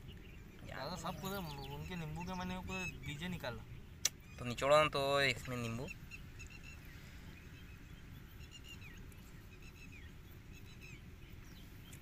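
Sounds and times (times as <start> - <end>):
faint bird chirps: 0.0 - 12.0
low steady rumble: 0.0 - 12.0.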